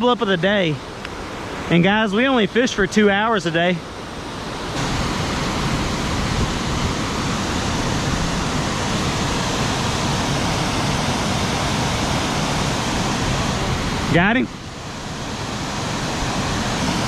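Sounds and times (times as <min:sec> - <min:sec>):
creek water rushing: 0:00.1 - 0:17.0.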